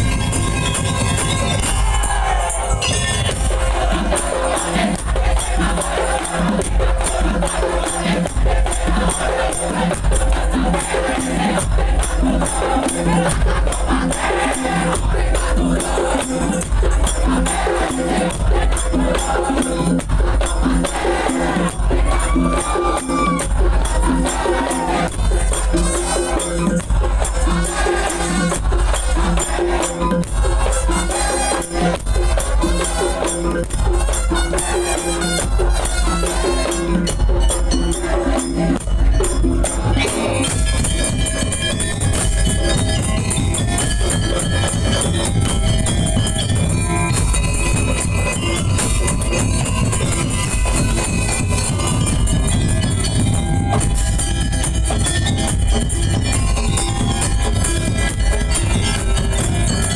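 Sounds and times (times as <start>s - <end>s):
percussion ensemble drumming: 0.0s - 59.9s.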